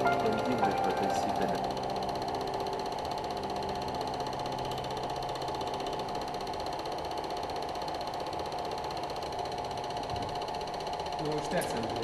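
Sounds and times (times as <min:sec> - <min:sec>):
film projector clatter: 0:00.0 - 0:12.0.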